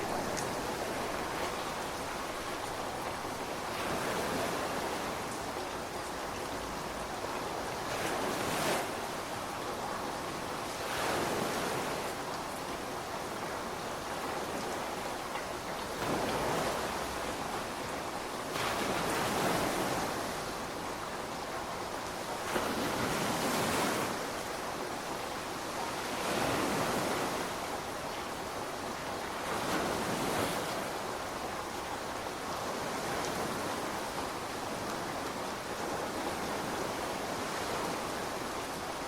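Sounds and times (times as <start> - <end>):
ocean waves breaking on beach: 0.0 - 39.0.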